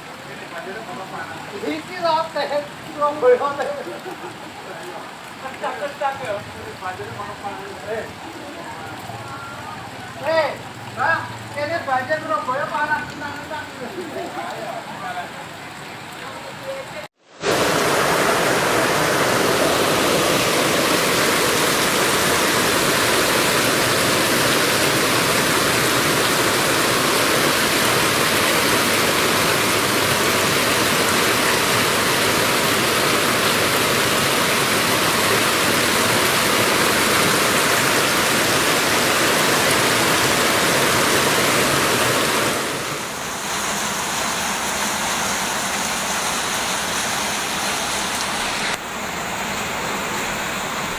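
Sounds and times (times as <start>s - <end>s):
flowing water rushing: 0.0s - 50.9s.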